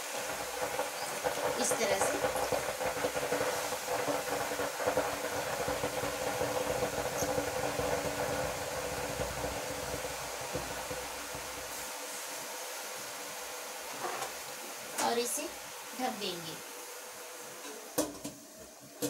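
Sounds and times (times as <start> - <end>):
leaves hissing in hot pan: 0.0 - 19.0.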